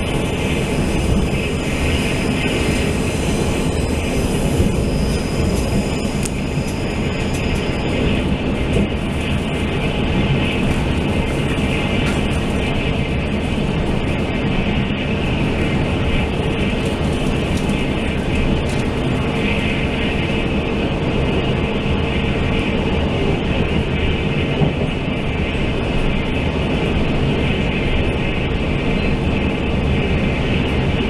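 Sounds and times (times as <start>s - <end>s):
constant hum: 0.0s - 31.0s
train wheels rumbling on rail: 0.0s - 31.0s.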